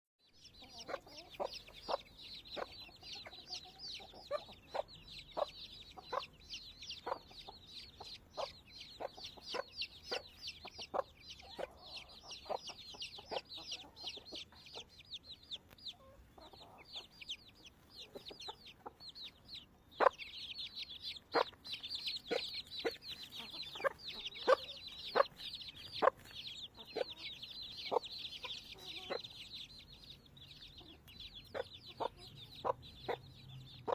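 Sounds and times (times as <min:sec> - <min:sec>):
chicks peeping: 0:00.3 - 0:33.9
hen clucking: 0:00.3 - 0:33.9.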